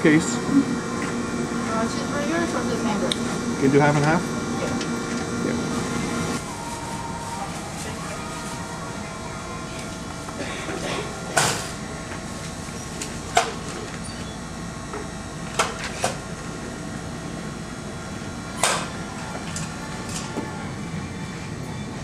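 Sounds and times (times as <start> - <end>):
restaurant counter hum: 0.0 - 22.0.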